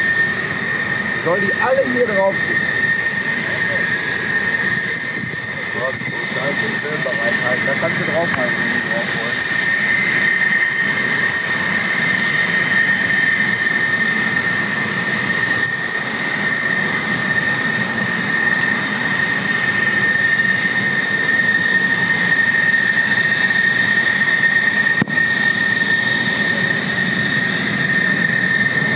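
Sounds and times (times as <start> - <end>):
jet engine whine: 0.0 - 28.9.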